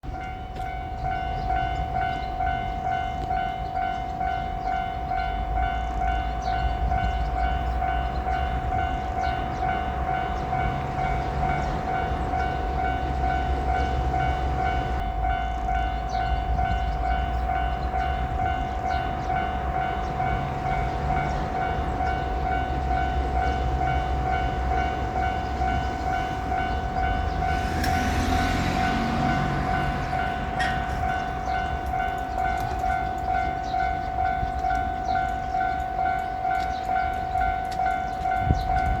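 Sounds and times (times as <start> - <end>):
train passing: 0.0 - 39.0
level-crossing alarm ringing: 0.2 - 39.0.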